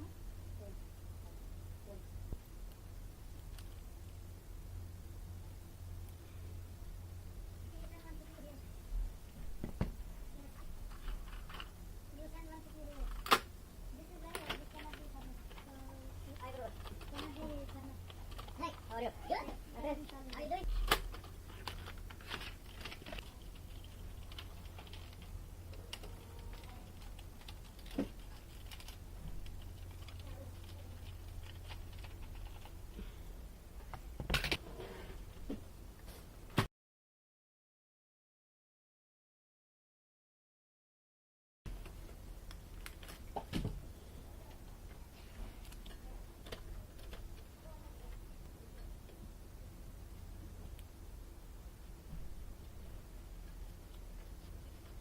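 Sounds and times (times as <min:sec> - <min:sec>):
steady low hum: 0:00.0 - 0:36.6, 0:41.7 - 0:55.0.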